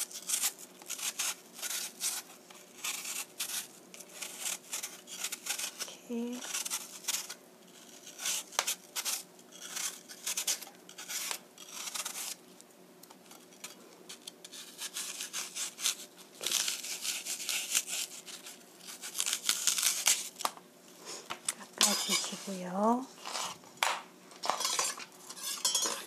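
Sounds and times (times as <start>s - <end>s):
knife peeling an apple: 0.0s - 23.8s.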